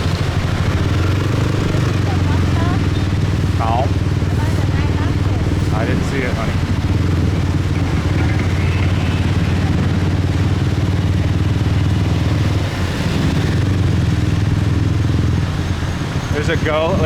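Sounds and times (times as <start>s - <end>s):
motorcycle engine hum: 0.0s - 17.0s
traffic noise: 0.0s - 17.0s.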